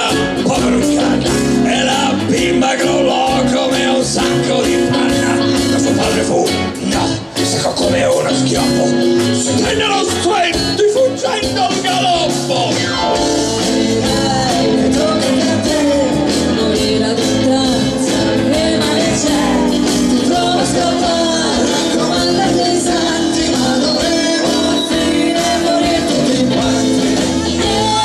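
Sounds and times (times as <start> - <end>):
live rock band playing: 0.0 - 28.0
sung vocals: 0.0 - 28.0.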